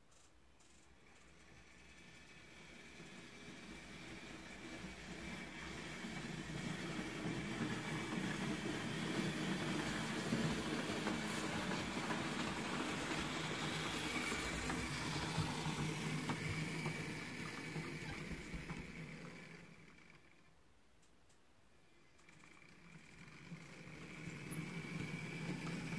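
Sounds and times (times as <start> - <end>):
model train rumbling on track: 1.0 - 20.5, 22.0 - 25.9.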